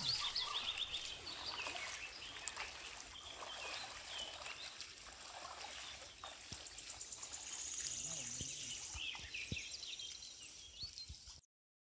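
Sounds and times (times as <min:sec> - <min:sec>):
birds chirping: 0:00.0 - 0:11.4.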